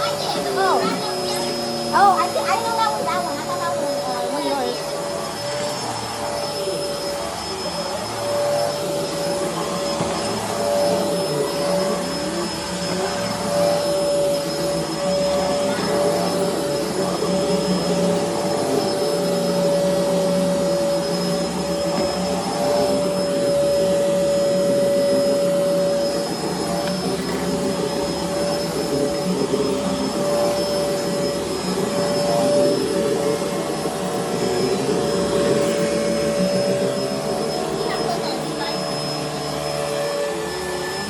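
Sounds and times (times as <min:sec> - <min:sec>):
vacuum cleaner motor whining: 0:00.0 - 0:41.0.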